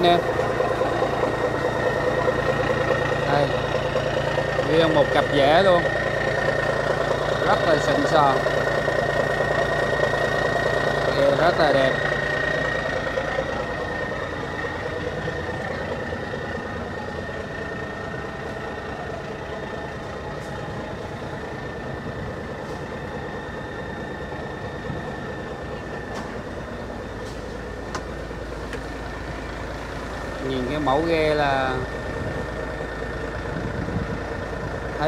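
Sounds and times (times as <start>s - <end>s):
diesel engine idling: 0.0s - 35.0s
thin steady whine: 0.0s - 35.0s.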